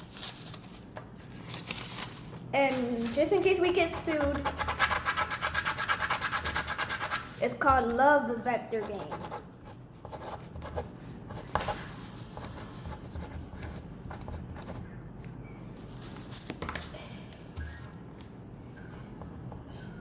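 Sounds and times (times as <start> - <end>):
rubbing and scratching: 0.0 - 8.1, 8.8 - 16.8.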